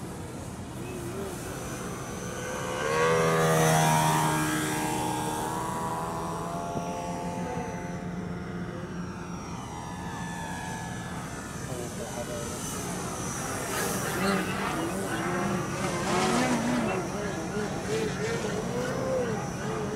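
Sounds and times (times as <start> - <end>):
model plane motor whining: 0.0 - 19.9.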